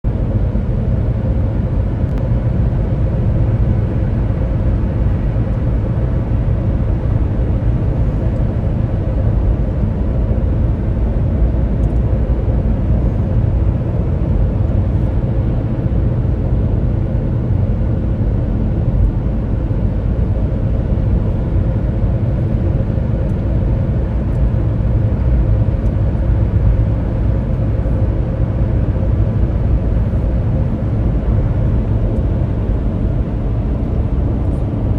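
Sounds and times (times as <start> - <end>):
moving car rumble: 0.1 - 34.9.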